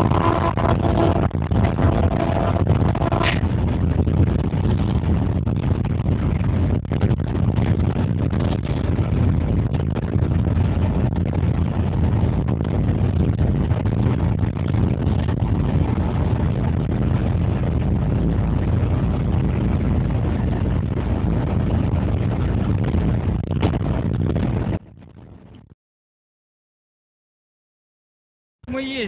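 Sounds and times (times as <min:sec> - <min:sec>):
diesel engine running: 0:00.0 - 0:25.6
wheels rolling on rails: 0:00.0 - 0:25.6.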